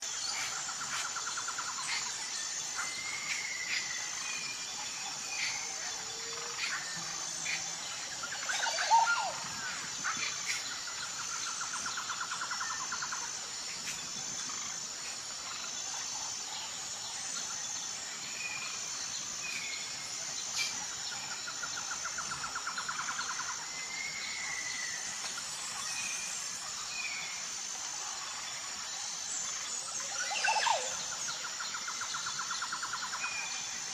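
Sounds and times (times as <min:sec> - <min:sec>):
pulsing insect chorus: 0:00.0 - 0:33.9.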